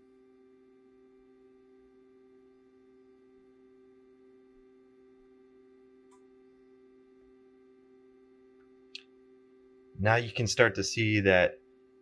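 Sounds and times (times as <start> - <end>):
faint electronic hum: 0.0 - 12.0.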